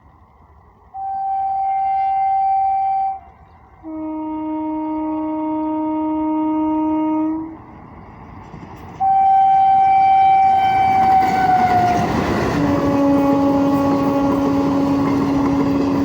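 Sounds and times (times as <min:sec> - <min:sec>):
high locomotive horn blast: 0:00.9 - 0:07.7, 0:09.0 - 0:16.0
low locomotive horn blast: 0:00.9 - 0:07.8, 0:09.0 - 0:16.0.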